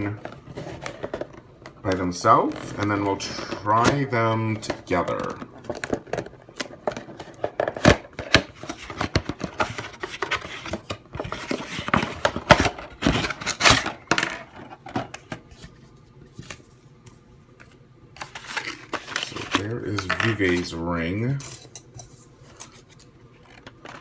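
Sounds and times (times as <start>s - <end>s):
plastic toy and box handled: 0.0s - 16.7s, 17.6s - 20.8s, 22.5s - 24.0s.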